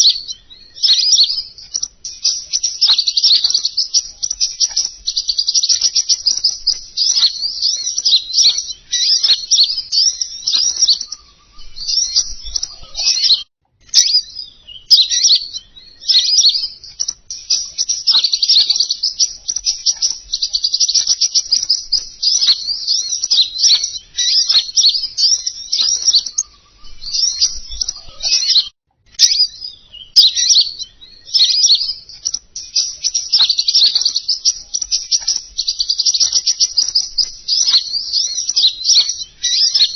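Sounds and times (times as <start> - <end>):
songbird twittering chirps and trills: 0.0 - 39.9.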